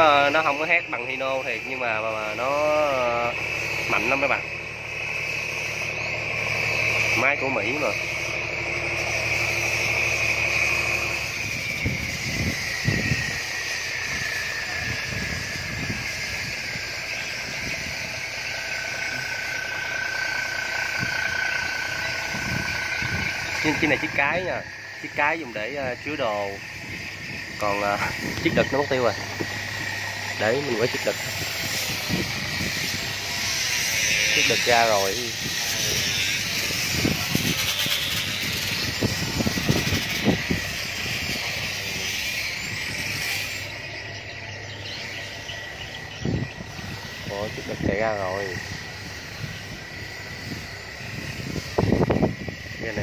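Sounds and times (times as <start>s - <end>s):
diesel boat engine running: 0.0s - 53.0s
high whine: 0.0s - 53.0s
hiss of water and wind: 0.0s - 53.0s.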